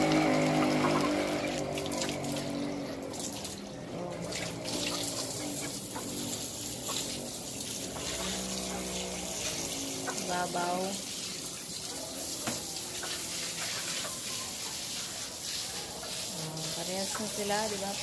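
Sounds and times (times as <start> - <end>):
water running from hose: 0.0 - 18.0
water splashing onto floor: 0.0 - 18.0.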